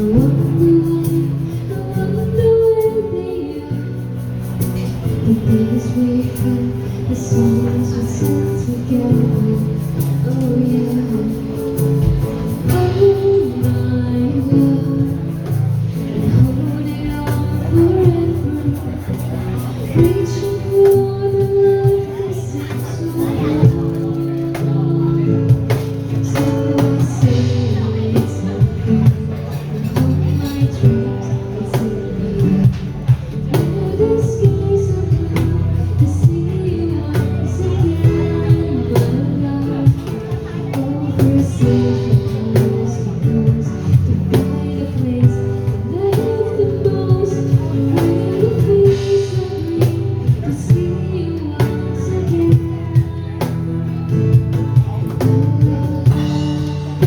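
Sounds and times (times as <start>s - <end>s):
guitar: 0.0s - 57.0s
person singing: 0.0s - 57.0s
drum kit beat: 9.2s - 57.0s.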